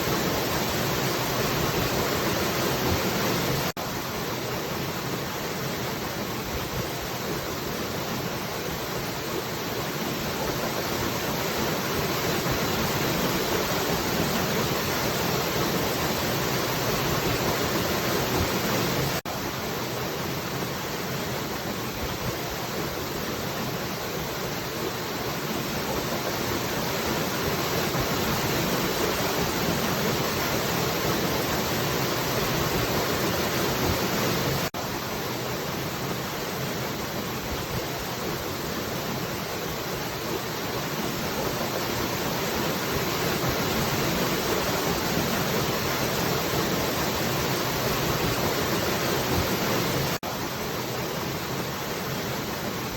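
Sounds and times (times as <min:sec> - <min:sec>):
falling water rushing: 0:00.0 - 0:52.9.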